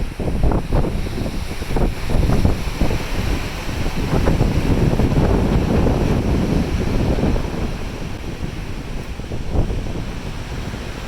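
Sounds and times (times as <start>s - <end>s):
sea waves rushing: 0.0s - 11.0s
wind buffeting microphone: 0.0s - 11.0s.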